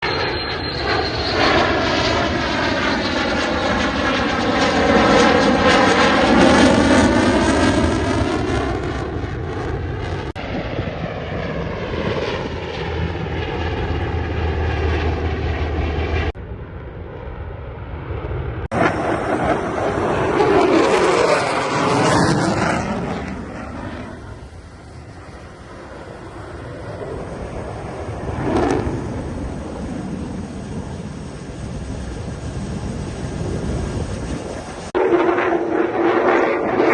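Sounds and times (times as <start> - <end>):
airplane engine roar passing: 0.0 - 36.9.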